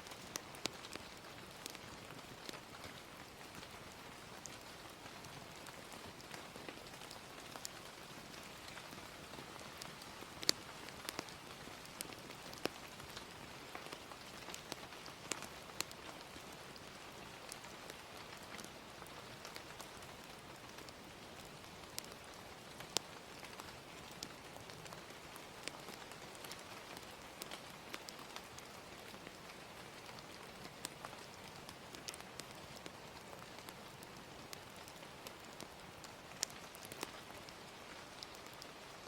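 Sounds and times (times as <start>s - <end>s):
fire crackling and popping: 0.0s - 39.0s
gentle steady rain: 0.0s - 39.0s.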